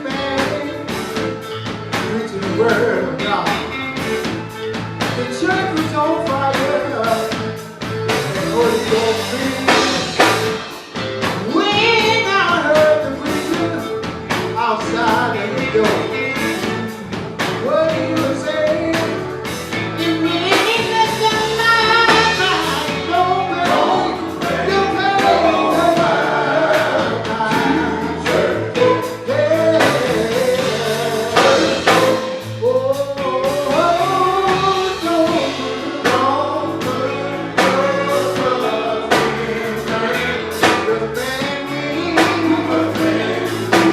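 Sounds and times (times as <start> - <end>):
song with singing voice: 0.0 - 43.9.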